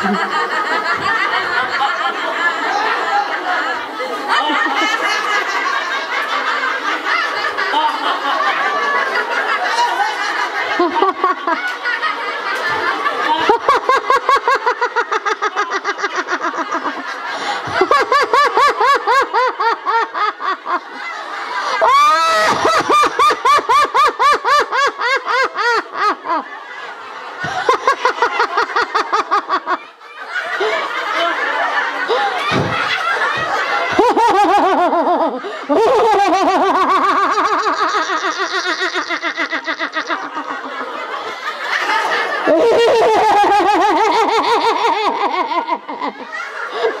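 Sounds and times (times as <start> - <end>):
group of people laughing: 0.0 - 47.0.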